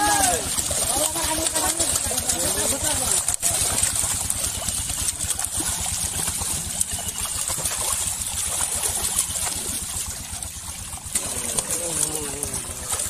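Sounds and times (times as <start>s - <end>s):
fish thrashing and splashing: 0.0s - 13.0s.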